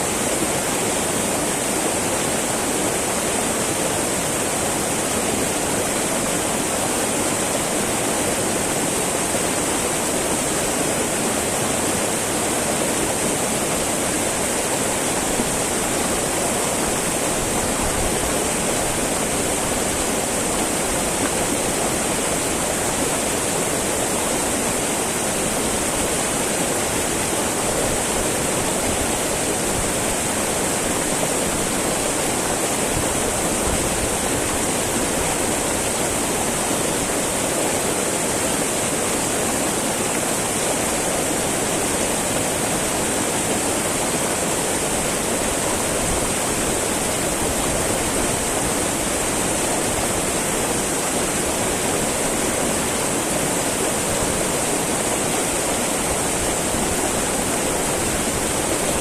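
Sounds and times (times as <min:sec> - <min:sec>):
river babbling over rocks: 0:00.0 - 0:59.0.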